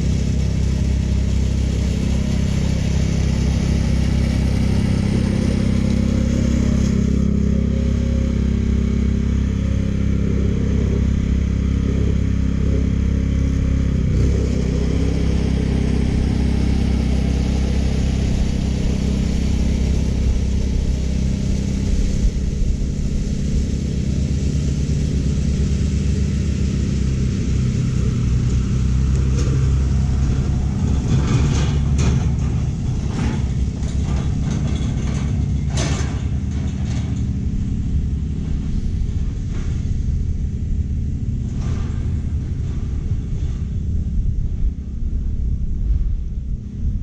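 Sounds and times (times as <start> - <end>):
reel mower engine drone: 0.0 - 47.0.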